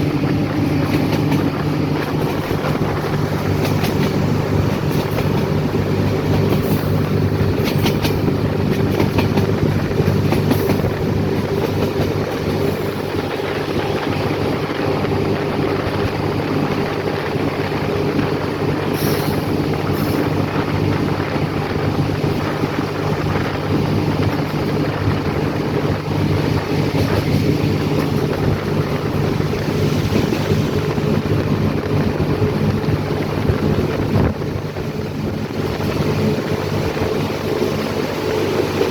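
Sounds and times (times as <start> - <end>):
train rumble: 0.0 - 38.9
wheels clicking on track: 0.0 - 38.9.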